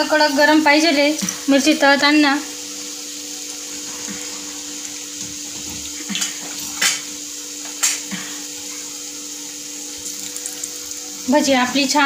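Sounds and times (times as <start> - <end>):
deep-frying oil sizzling: 0.0 - 12.0.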